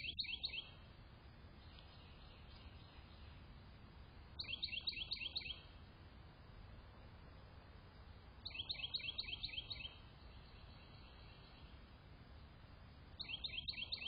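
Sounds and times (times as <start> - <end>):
low background rumble: 0.0 - 13.9
songbird chirping: 0.0 - 14.0.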